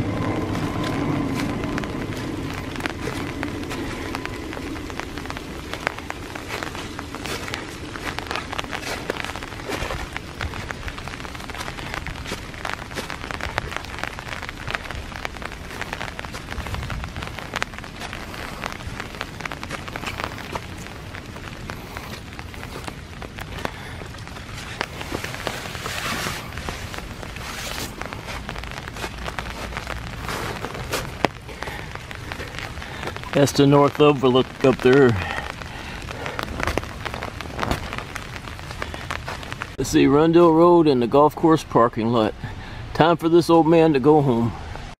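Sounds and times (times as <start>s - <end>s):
footsteps through wet leaves: 0.0s - 39.8s
rain pattering: 0.0s - 44.9s.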